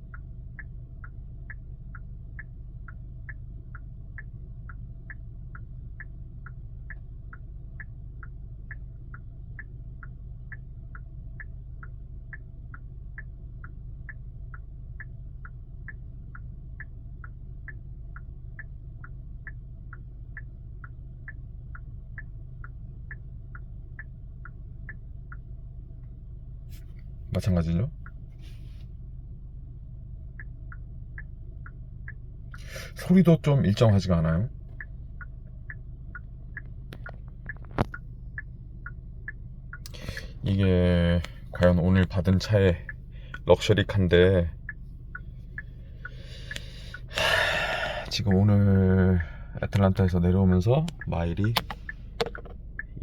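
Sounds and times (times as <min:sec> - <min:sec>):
steady low hum: 0:00.0 - 0:53.0
turn signal ticking: 0:00.0 - 0:53.0.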